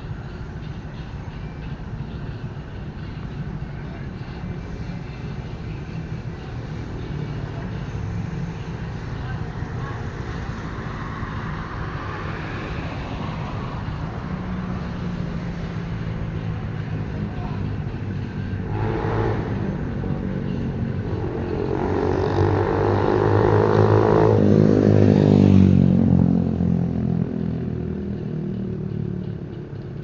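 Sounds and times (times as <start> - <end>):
vehicle engine running: 2.0 - 30.0.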